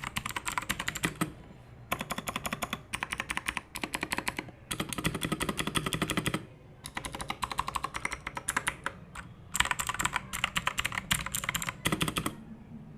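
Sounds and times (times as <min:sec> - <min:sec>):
mechanical keyboard typing: 0:00.0 - 0:12.4.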